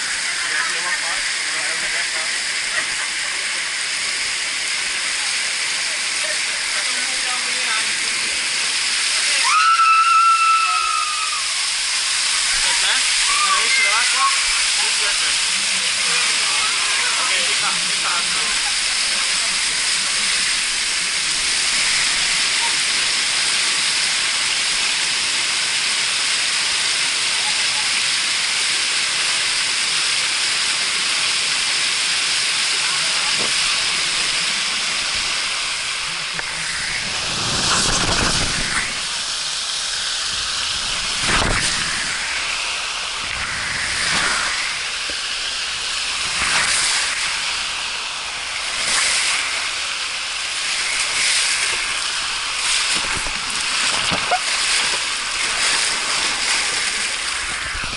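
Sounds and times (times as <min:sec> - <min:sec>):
water rushing down slide: 0:00.0 - 0:57.9.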